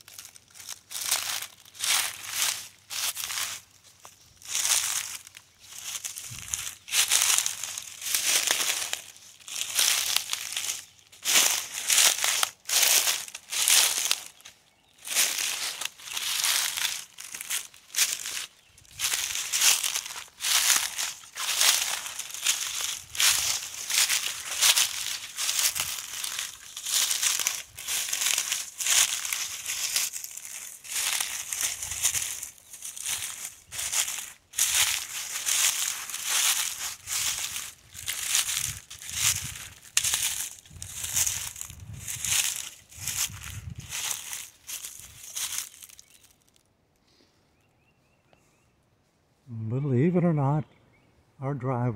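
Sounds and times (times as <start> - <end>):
footsteps crunching dry leaves: 0.0 - 46.6.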